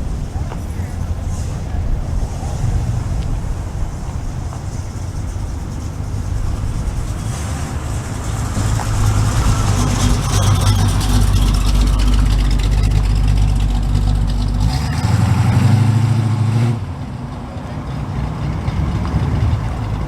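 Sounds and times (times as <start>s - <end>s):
car engine rumble: 0.0s - 20.0s
road noise: 0.0s - 20.0s.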